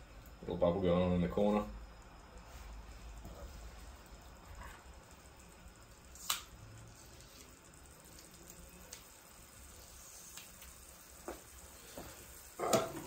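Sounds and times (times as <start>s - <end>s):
faint frying hiss: 0.0s - 13.0s.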